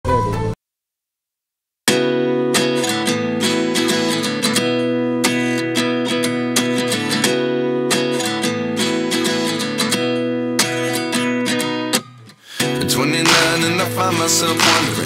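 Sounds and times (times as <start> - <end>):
strummed guitar chords: 1.9 - 15.0.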